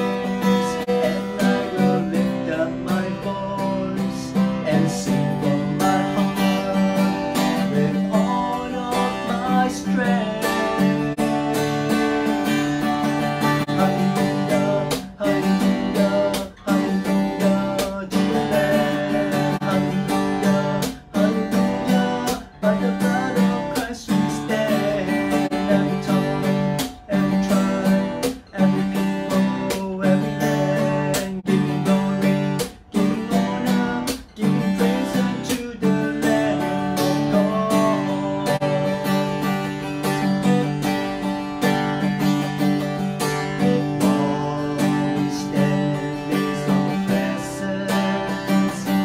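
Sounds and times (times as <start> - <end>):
acoustic guitar strumming: 0.0 - 49.0
man singing: 0.0 - 49.0.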